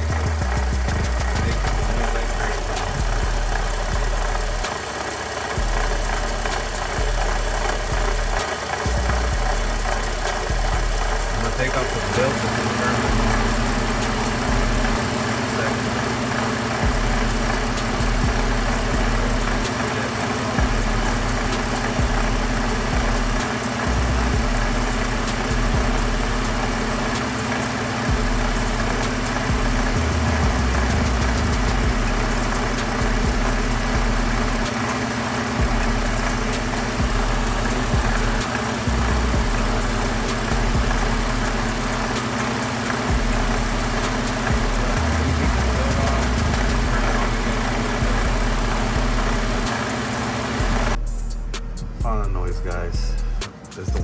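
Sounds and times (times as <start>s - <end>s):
water pump rattle: 0.0s - 51.0s
car engine idling: 0.0s - 54.0s.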